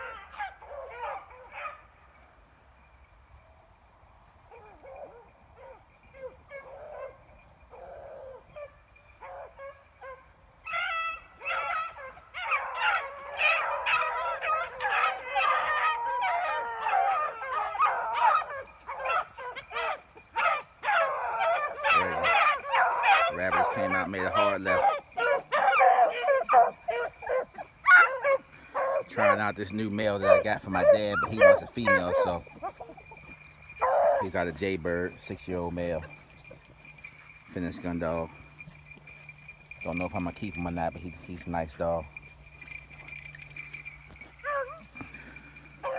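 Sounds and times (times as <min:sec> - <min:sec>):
beagles baying: 0:00.0 - 0:01.8, 0:04.5 - 0:45.9.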